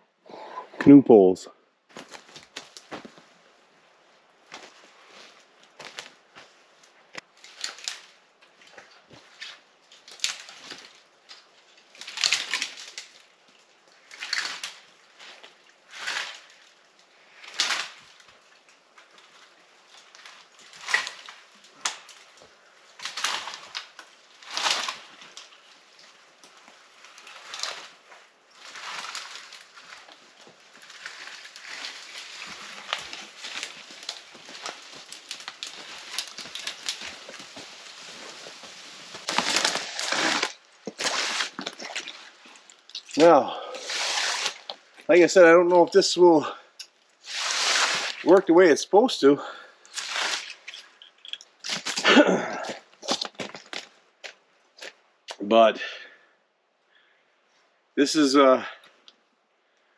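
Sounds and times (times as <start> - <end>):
twigs rustling and crunching: 1.9 - 3.6, 4.2 - 55.4.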